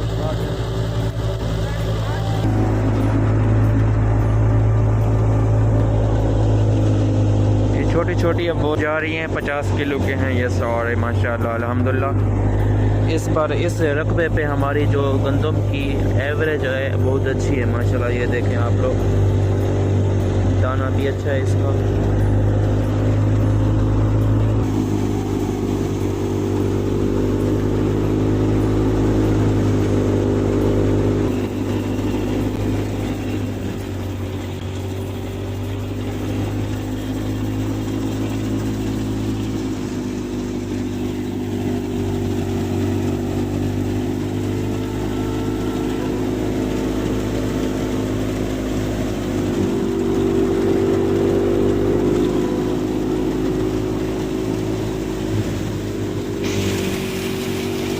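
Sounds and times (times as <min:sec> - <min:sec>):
tractor engine droning: 0:00.0 - 0:57.9.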